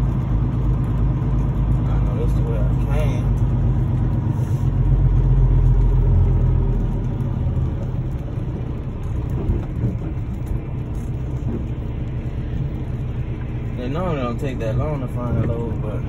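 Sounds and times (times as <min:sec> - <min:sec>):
diesel truck engine rumble: 0:00.0 - 0:16.0.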